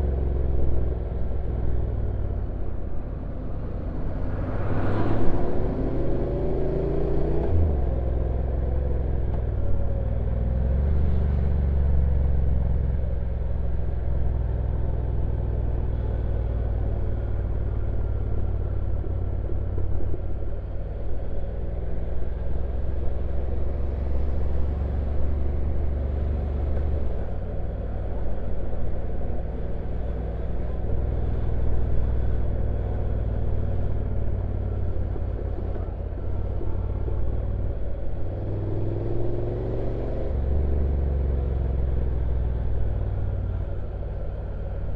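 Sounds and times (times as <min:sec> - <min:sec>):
wind and road noise: 0:00.0 - 0:44.9
motorcycle engine running: 0:07.6 - 0:44.9.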